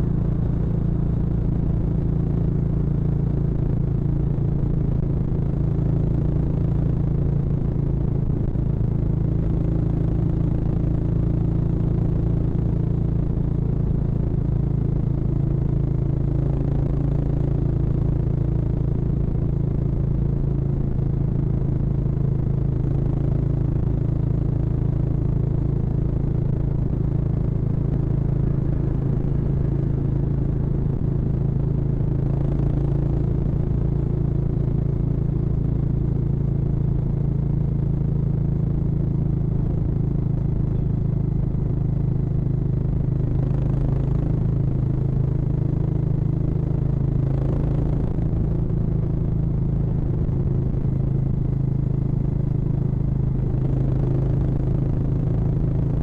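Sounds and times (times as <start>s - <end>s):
motorcycle engine cruising: 5.5s - 56.0s.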